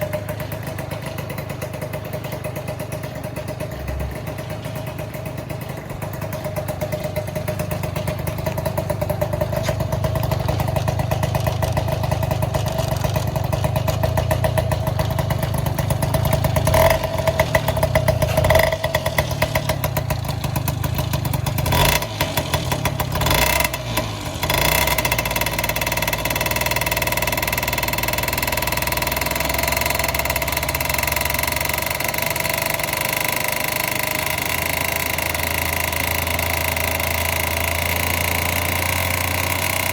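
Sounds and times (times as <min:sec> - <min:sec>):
scooter engine idling and revving: 0:00.0 - 0:39.9.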